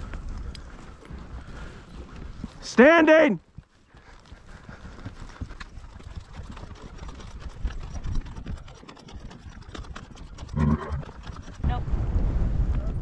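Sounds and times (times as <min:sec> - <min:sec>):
horse hoofbeats: 0:00.0 - 0:11.6.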